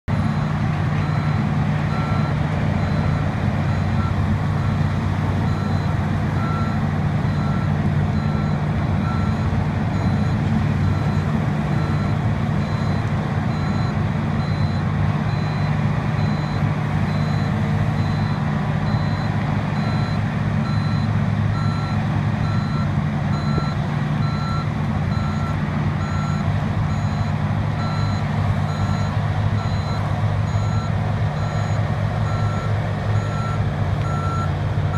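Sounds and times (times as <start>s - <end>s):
excavator diesel engine under load: 0.0s - 34.9s
travel alarm beeping: 0.1s - 34.5s.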